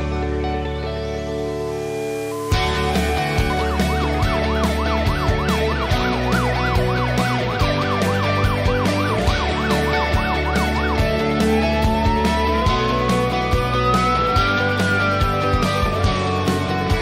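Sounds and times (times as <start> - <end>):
rock music with steady beat: 0.0 - 17.0
siren rising and falling: 1.2 - 17.0.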